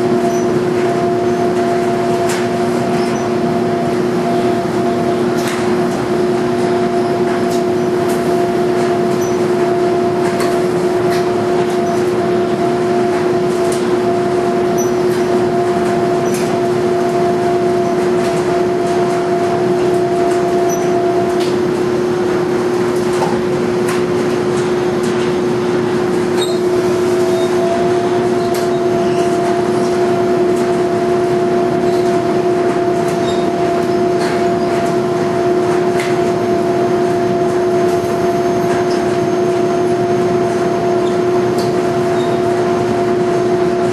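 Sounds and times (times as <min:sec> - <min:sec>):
laundry machinery humming: 0:00.0 - 0:43.9.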